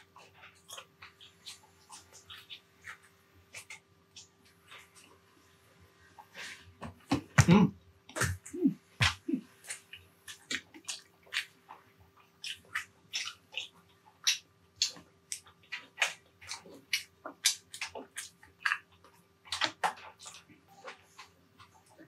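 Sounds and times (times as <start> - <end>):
close chewing: 0.0 - 5.3, 8.1 - 22.0.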